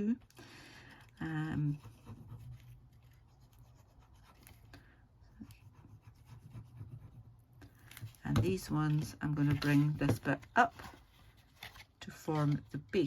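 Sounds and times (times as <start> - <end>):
card stock scratching and rustling: 1.0 - 4.7, 5.4 - 13.0.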